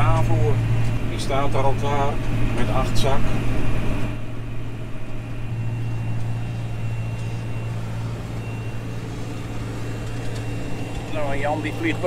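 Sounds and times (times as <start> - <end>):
faint thin high whine: 0.0 - 12.0
tractor engine running under load: 0.0 - 12.0.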